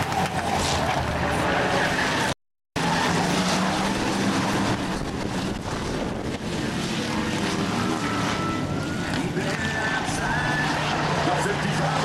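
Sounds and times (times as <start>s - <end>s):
stock car engines droning: 0.0s - 12.0s.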